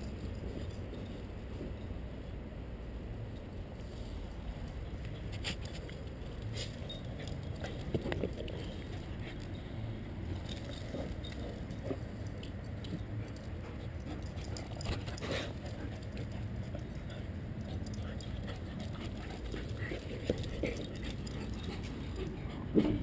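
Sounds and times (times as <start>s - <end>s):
steady low rumble: 0.0s - 23.0s
rustling and scraping: 3.7s - 23.0s.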